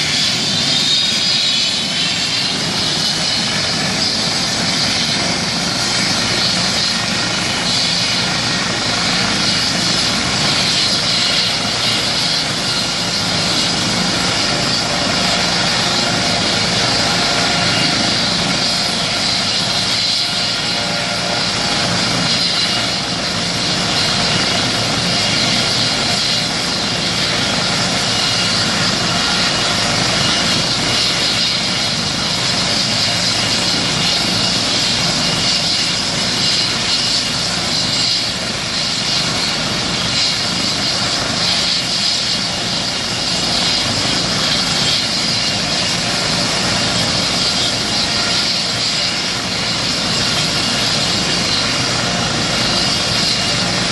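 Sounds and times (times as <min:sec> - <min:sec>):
helicopter rotors rushing: 0:00.0 - 0:53.9
helicopter turbine whine: 0:00.0 - 0:53.9.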